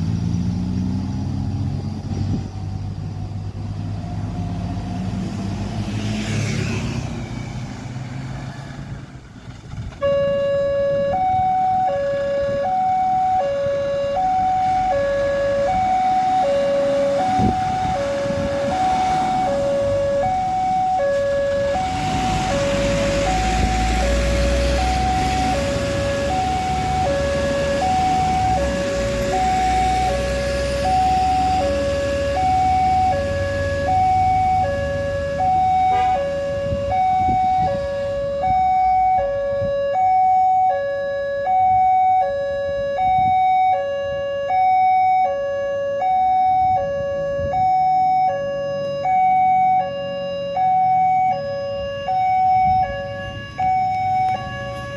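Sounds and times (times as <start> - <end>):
heavy truck engines: 0.0 - 54.9
passing traffic: 0.0 - 54.9
level crossing two-tone alarm: 10.0 - 54.9.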